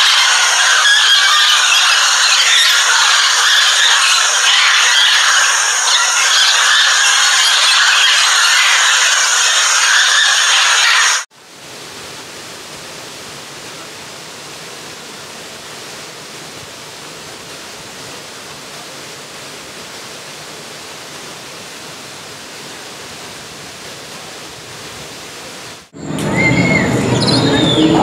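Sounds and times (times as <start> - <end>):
water rushing over rocks: 0.0 - 25.9.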